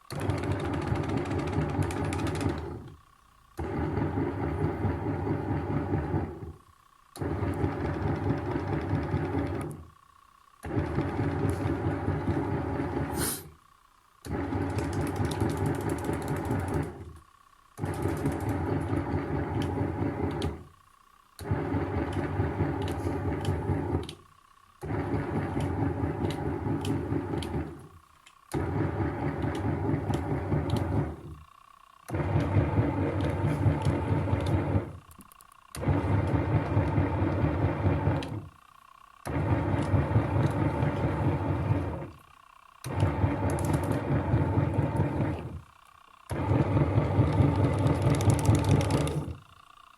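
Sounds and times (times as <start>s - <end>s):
washing machine motor running: 0.0s - 49.9s.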